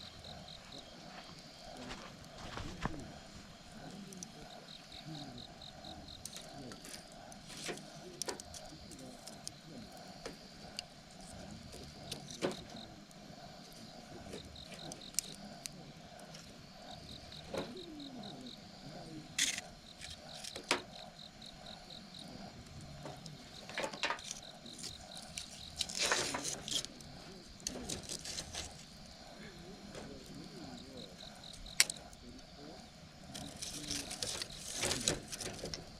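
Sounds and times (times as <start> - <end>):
campfire crackling: 0.0 - 35.9
insect chirping: 0.0 - 35.9.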